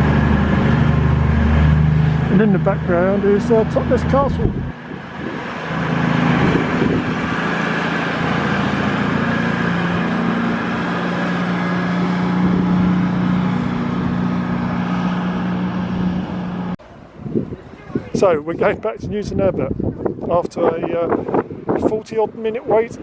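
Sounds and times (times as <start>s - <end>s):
diesel train engine droning: 0.0s - 18.5s.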